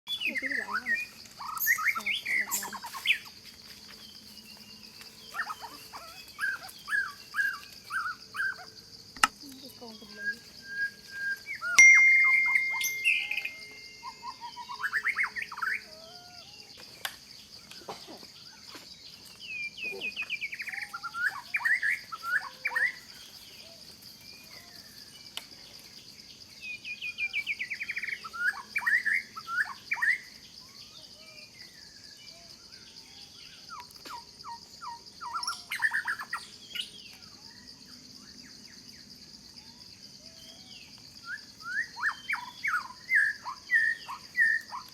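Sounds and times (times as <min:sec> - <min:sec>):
birds chirping: 0:00.1 - 0:44.9
high insect hum: 0:00.1 - 0:44.9.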